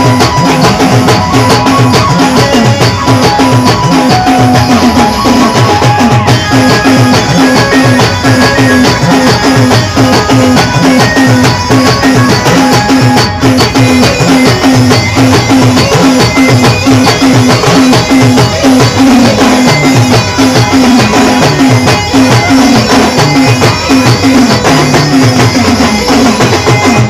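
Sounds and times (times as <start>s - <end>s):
band playing folk dance music: 0.0s - 27.0s.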